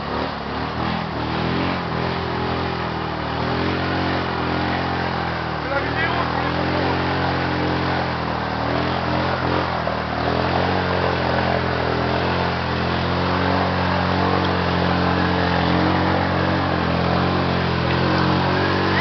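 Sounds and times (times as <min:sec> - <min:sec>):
quad bike engine running: 0:00.0 - 0:19.0
splashing through muddy water: 0:00.0 - 0:19.0.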